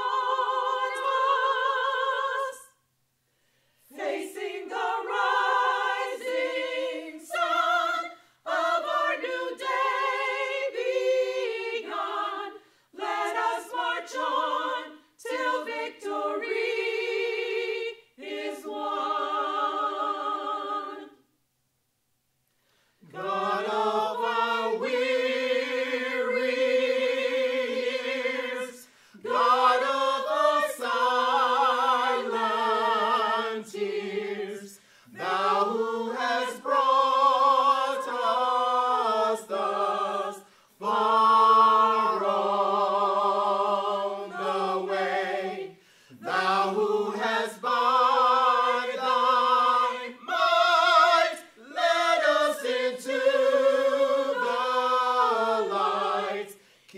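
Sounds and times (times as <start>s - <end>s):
mixed choir singing a cappella: 0.0s - 2.8s, 3.8s - 21.3s, 23.0s - 56.9s.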